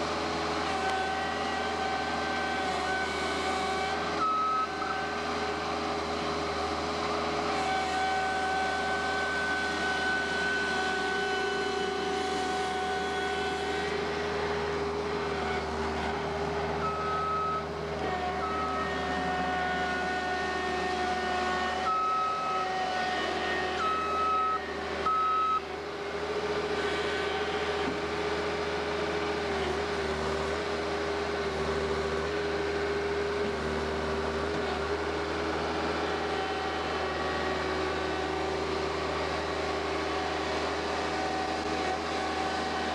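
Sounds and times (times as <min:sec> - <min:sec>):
loader engine running: 0:00.0 - 0:42.9.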